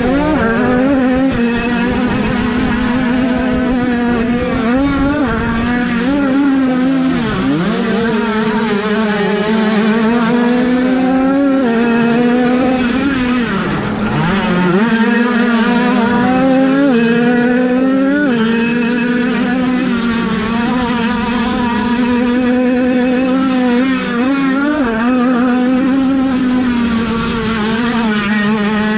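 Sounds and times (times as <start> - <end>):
motocross bike engine revving: 0.0 - 28.9.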